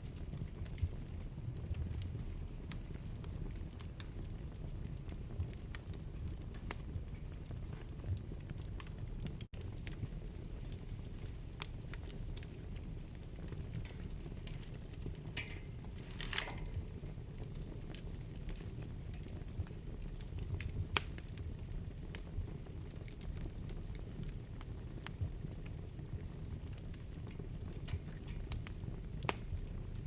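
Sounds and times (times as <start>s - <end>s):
fire crackles and pops: 0.0s - 30.0s
low rumble of flames: 0.0s - 30.0s.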